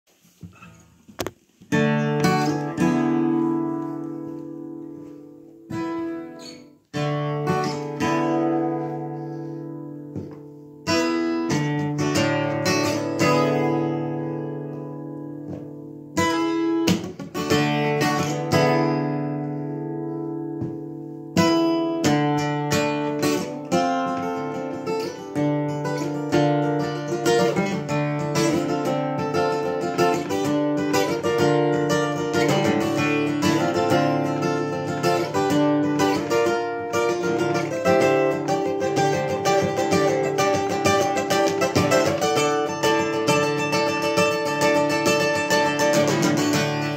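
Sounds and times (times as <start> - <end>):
acoustic guitar chords: 0.2 - 46.9.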